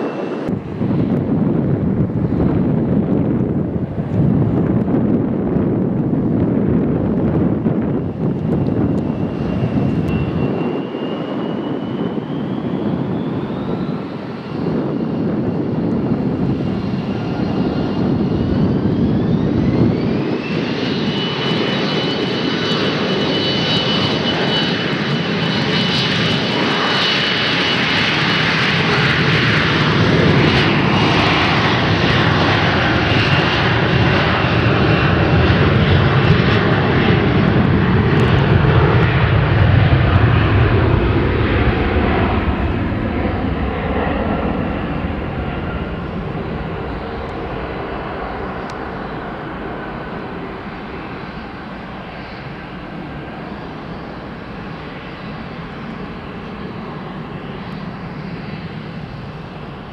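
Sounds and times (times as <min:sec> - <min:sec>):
jet engines spooling up: 0:00.0 - 0:59.9.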